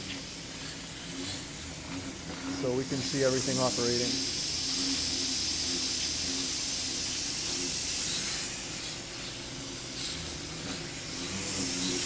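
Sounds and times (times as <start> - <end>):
compressed air hissing: 0.0 - 12.0.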